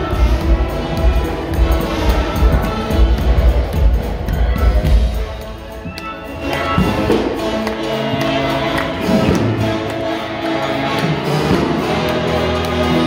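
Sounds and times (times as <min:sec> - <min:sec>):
live brass band playing: 0:00.0 - 0:13.0.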